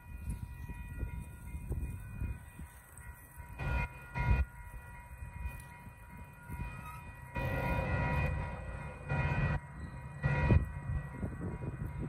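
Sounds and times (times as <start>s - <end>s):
distant train rumble: 0.0s - 12.0s.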